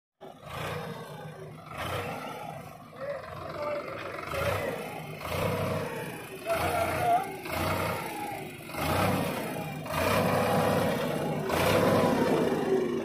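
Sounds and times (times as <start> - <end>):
tractor diesel engine straining: 0.2 - 13.0.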